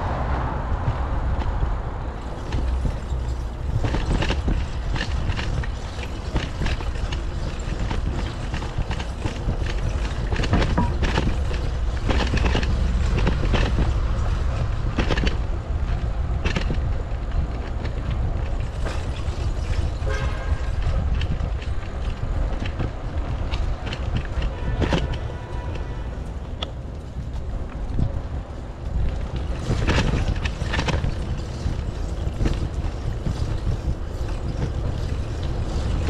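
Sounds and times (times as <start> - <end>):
bicycle road noise: 0.0 - 36.0
wind buffeting microphone: 0.0 - 36.0
knocks and rattles: 0.8 - 36.0.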